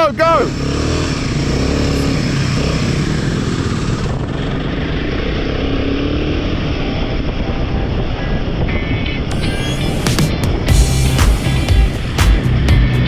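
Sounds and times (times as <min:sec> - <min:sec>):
motorcycle engine running: 0:00.0 - 0:08.5, 0:09.3 - 0:13.0
wind and road noise: 0:00.0 - 0:13.0.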